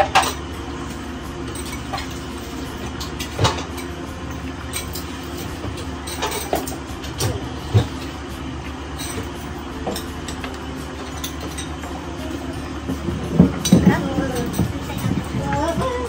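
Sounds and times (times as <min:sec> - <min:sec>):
steady low hum: 0:00.0 - 0:16.0
utensils and dishes clinking: 0:00.0 - 0:16.0.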